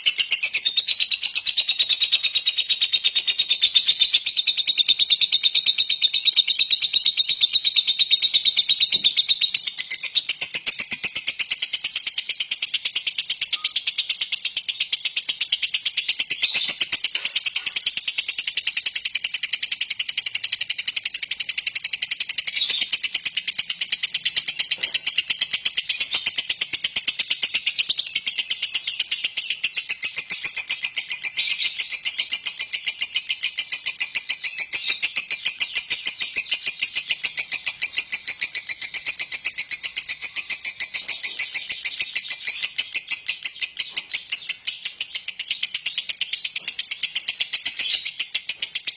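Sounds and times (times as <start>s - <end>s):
lovebird chattering trill: 0.0s - 48.9s.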